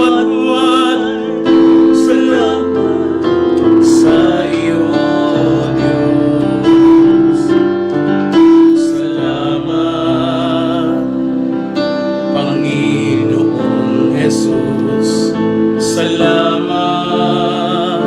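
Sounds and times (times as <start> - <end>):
slow piano worship music: 0.0 - 18.0.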